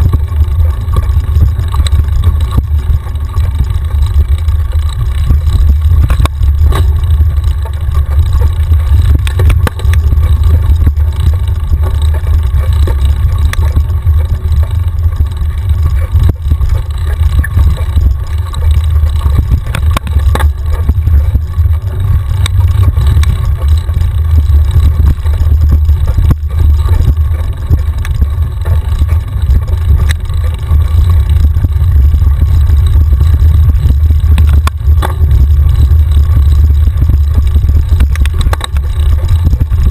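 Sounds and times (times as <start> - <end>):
bike knocking and rattling: 0.0 - 39.9
wind buffeting microphone: 0.0 - 39.9.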